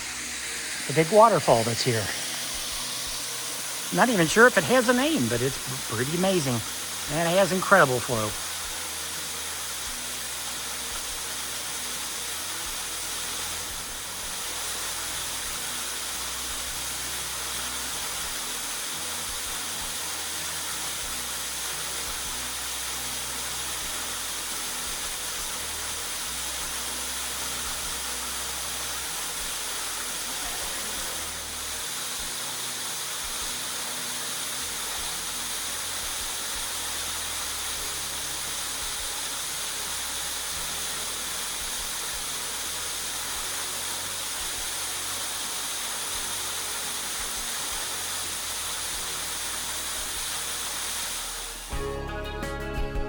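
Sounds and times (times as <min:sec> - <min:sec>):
waterfall rushing: 0:00.0 - 0:51.7.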